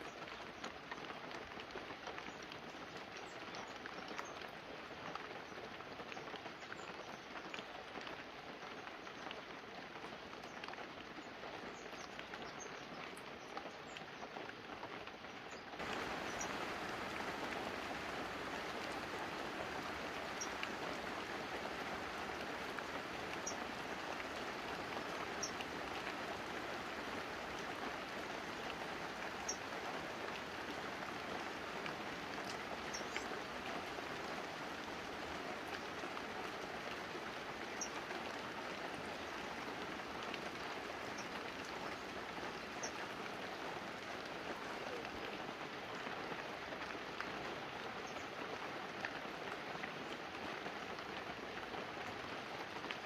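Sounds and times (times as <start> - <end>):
light rain on leaves and roof: 0.0 - 53.0.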